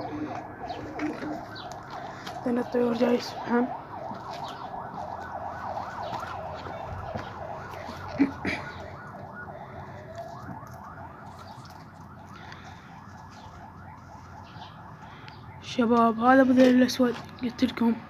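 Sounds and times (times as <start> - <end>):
electronic siren-like alarm tone: 0.0 - 15.8.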